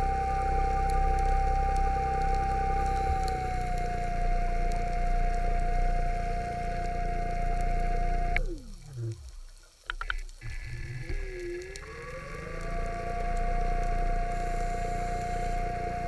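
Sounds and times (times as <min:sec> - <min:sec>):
underwater scooter motor whining: 0:00.0 - 0:09.2, 0:10.4 - 0:16.0
faint ticks: 0:00.0 - 0:16.0.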